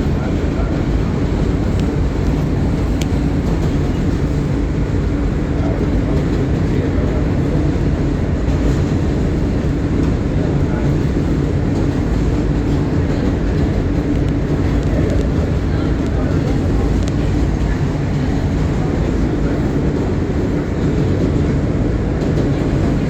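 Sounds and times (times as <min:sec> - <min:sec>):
subway train wheels rumbling on track: 0:00.0 - 0:23.0.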